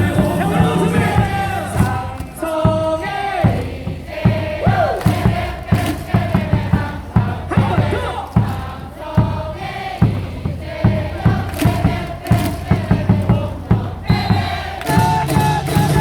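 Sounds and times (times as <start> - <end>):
crowd singing in unison: 0.0 - 16.0
repeated beat: 0.0 - 16.0.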